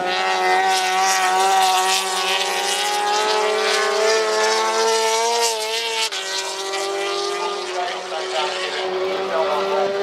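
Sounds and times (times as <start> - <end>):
racing motorcycle engine high revs: 0.0 - 10.0.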